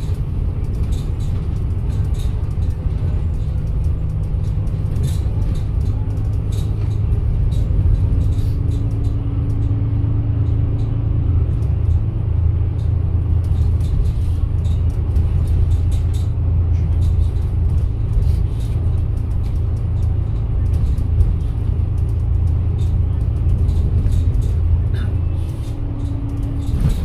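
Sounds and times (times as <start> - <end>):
bus engine rumble: 0.0 - 27.0
light ticks and rattles: 0.0 - 27.0.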